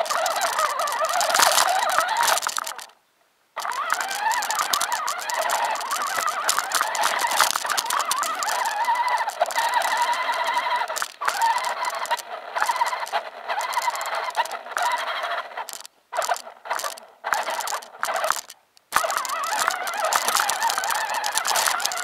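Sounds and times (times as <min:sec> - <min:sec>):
rc truck motor whining: 0:00.0 - 0:02.9, 0:03.6 - 0:22.0.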